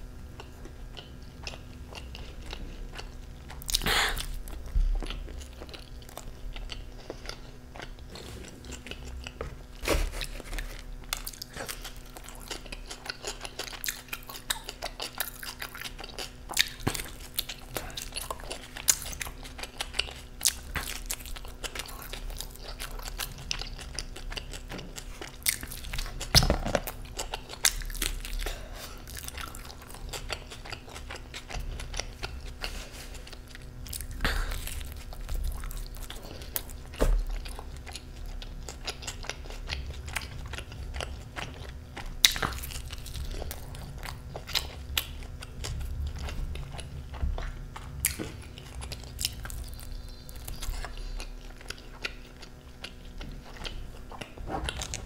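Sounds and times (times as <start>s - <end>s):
man chewing: 0.0s - 55.0s.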